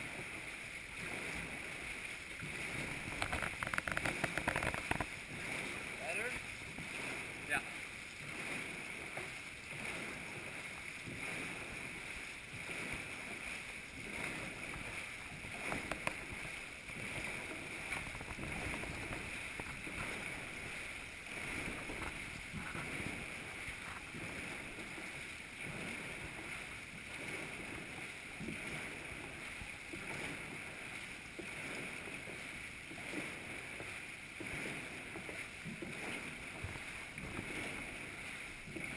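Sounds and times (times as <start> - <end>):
paddles splashing water: 0.0 - 38.9.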